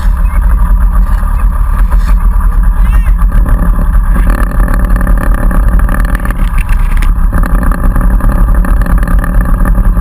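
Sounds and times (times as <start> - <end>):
snowmobile engine idling: 0.0 - 10.0.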